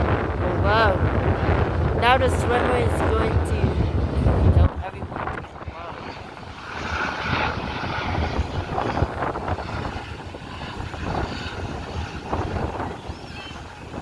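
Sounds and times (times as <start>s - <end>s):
helicopter rotor throbbing: 0.0s - 14.0s
turbine rush: 0.0s - 14.0s.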